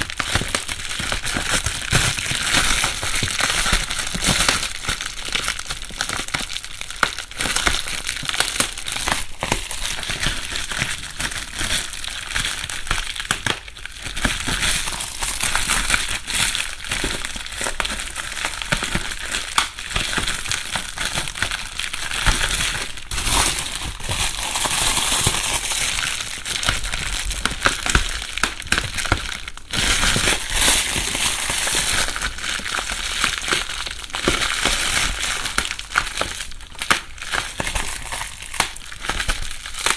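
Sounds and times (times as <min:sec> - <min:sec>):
bubble wrap crumpling and popping: 0:00.0 - 0:39.9.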